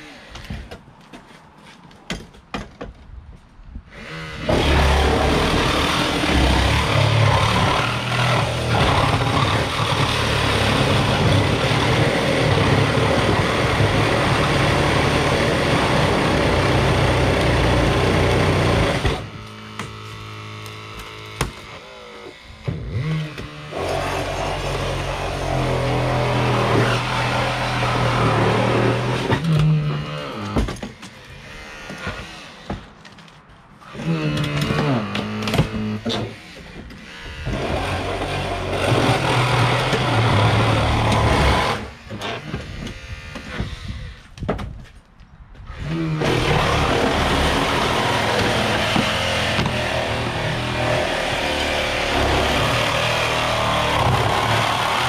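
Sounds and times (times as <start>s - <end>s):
powered rescue tools working: 3.9s - 44.2s, 45.7s - 55.0s.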